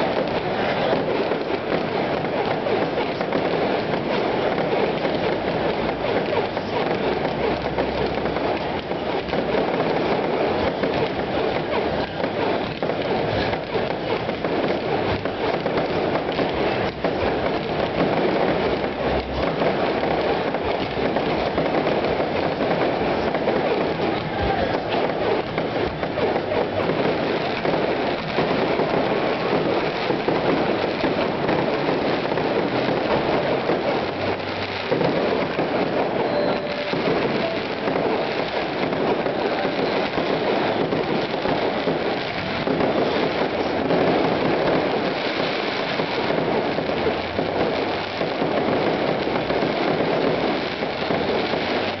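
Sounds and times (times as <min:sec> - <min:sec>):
fireworks crackling bursts: 0:00.0 - 0:52.0.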